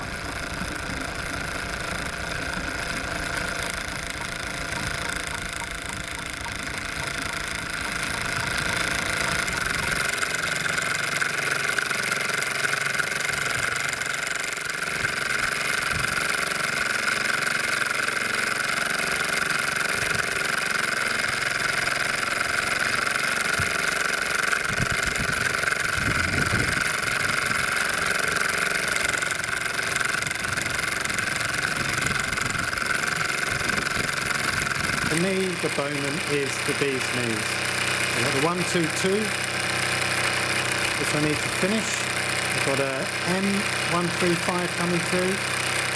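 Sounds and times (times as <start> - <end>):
model steam engine chuffing: 0.0 - 45.9.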